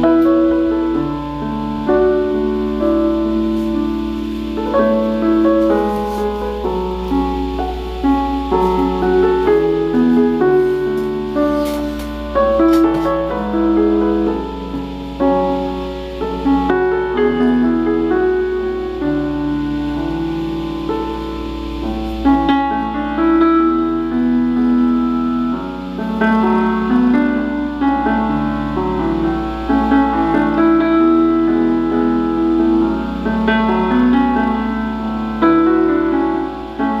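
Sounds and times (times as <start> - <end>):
calm piano melody: 0.0 - 37.0.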